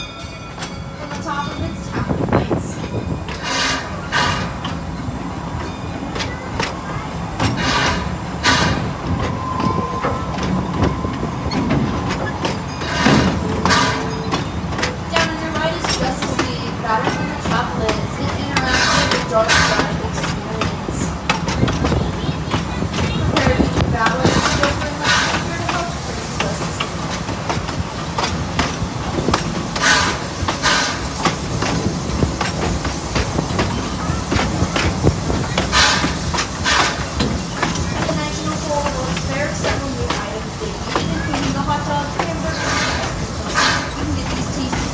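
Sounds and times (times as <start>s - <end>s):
train coaches rumbling: 0.0s - 44.9s
steam hissing surge: 2.6s - 5.6s, 6.5s - 44.9s
wheel clicks on rail joints: 5.6s - 44.9s.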